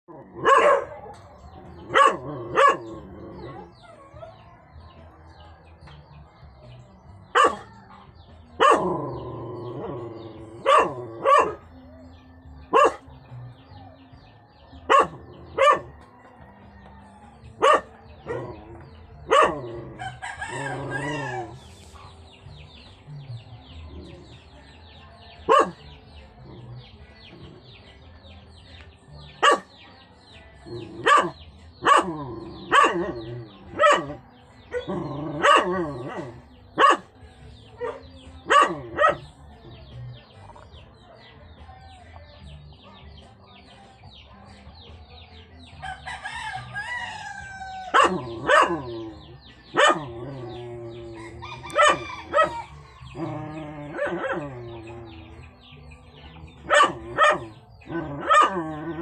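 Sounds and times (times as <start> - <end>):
dog barking: 0.2 - 4.9, 7.2 - 13.6, 14.6 - 27.6, 29.2 - 29.8, 30.6 - 40.8, 46.0 - 59.0.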